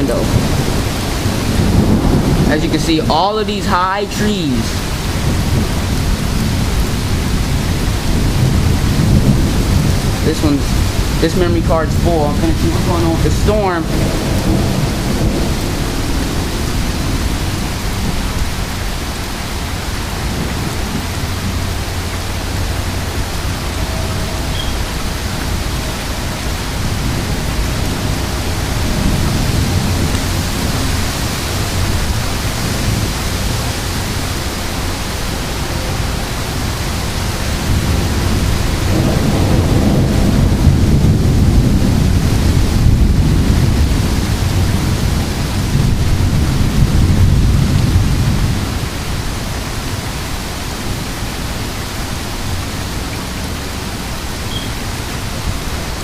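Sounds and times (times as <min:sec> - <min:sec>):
heavy rain pouring: 0:00.0 - 0:56.0
thunder rumbling: 0:00.0 - 0:56.0.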